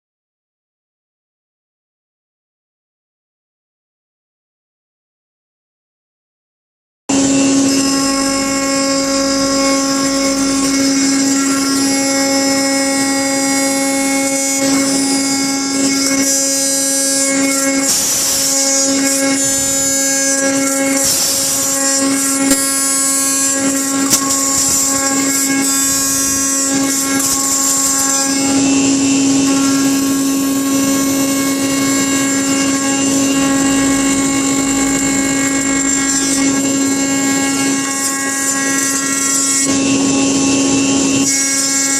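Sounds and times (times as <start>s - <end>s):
cutter milling into wood: 7.1s - 41.9s
router spindle whine: 7.1s - 41.9s.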